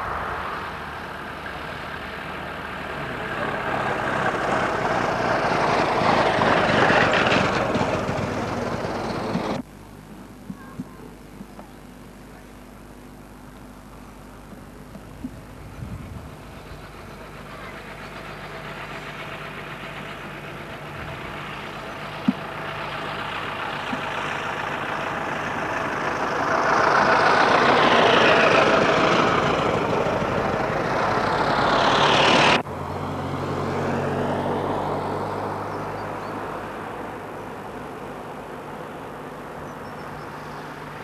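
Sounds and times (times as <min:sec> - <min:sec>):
car approaching: 0:00.0 - 0:09.6, 0:13.8 - 0:41.0
old cars driving past: 0:00.0 - 0:09.6, 0:15.4 - 0:41.0.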